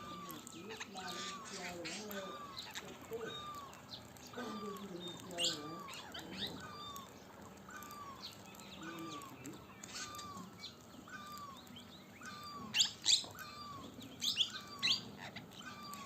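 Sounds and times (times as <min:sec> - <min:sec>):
shrill parrot calls: 0:00.0 - 0:16.0.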